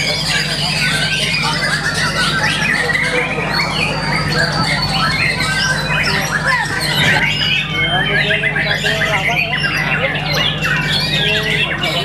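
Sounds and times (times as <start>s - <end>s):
bird singing chirps and whistles: 0.0s - 12.0s
steady low hum: 0.0s - 12.0s.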